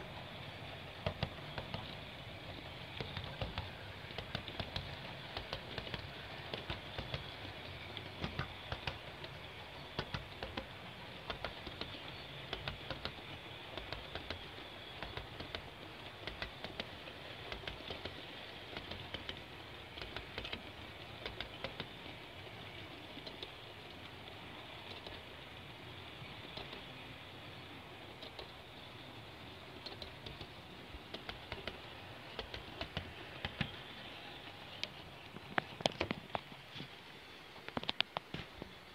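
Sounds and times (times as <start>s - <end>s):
model train wheels clicking: 0.0s - 38.9s
train rolling noise: 0.0s - 38.9s.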